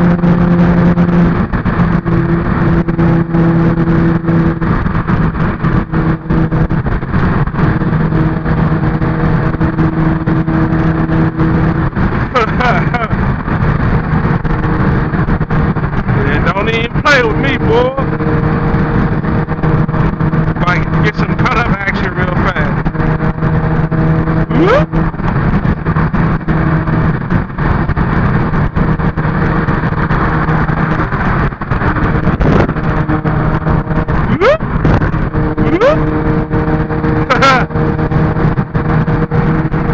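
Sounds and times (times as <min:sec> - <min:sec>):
car engine running: 0:00.0 - 0:39.9
road noise: 0:00.0 - 0:39.9
rough rushing noise: 0:00.0 - 0:39.9.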